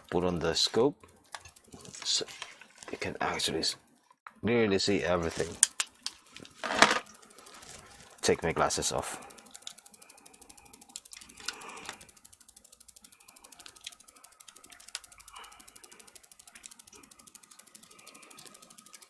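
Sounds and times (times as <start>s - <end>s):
faint rapid ticking: 0.0s - 19.0s.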